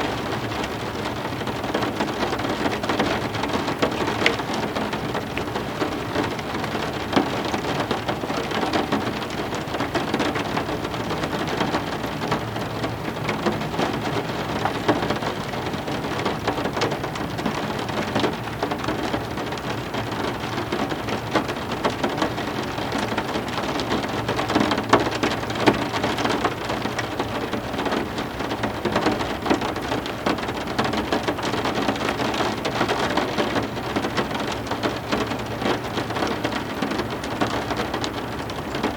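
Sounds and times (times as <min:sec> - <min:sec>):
heavy rain with drops ticking: 0:00.0 - 0:38.9.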